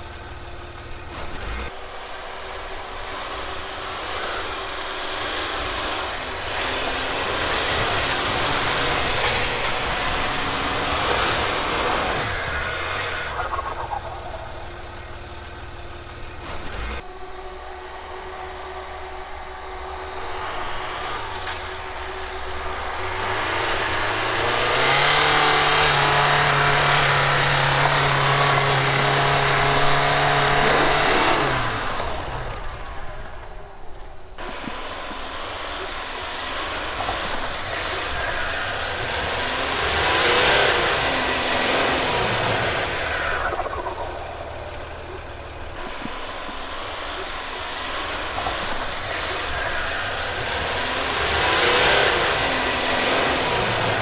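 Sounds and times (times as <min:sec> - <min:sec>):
suv engines revving: 0:00.0 - 0:54.0.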